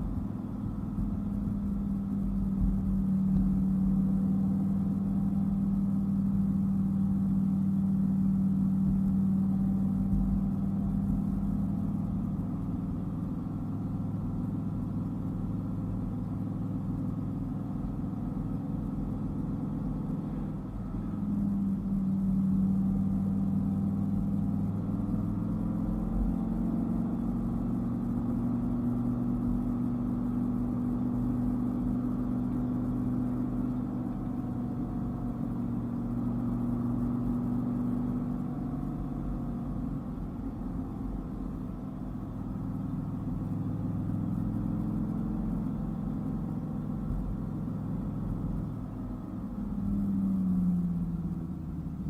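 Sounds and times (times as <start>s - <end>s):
car engine drone: 0.0s - 52.0s
road noise: 0.0s - 52.0s.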